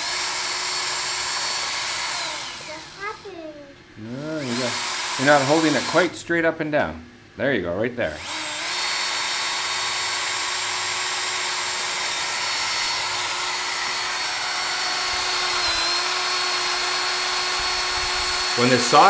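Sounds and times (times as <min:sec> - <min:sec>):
cordless drill motor whine: 0:00.0 - 0:03.2, 0:04.3 - 0:06.1, 0:08.2 - 0:19.0
drill bit cutting wood: 0:00.0 - 0:03.2, 0:04.2 - 0:06.1, 0:08.2 - 0:19.0.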